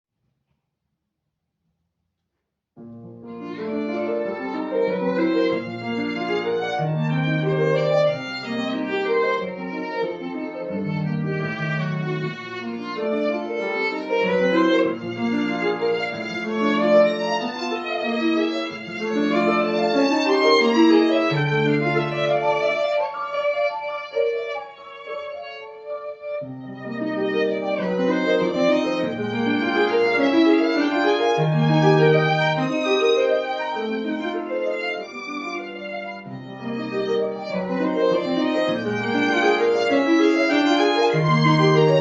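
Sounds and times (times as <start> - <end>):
violin playing slow melody: 3.2 - 42.0.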